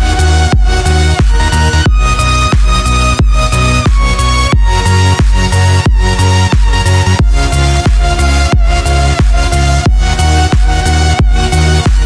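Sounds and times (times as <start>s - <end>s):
driving kick drum beat: 0.0s - 12.0s
heavy synth bass line: 0.0s - 12.0s.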